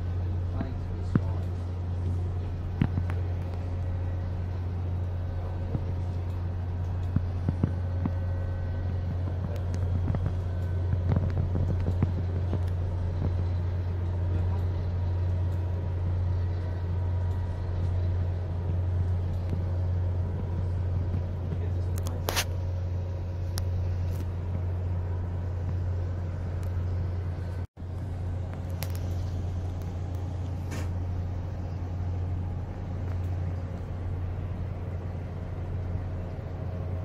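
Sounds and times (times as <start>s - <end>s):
ship machinery humming: 0.0s - 37.0s.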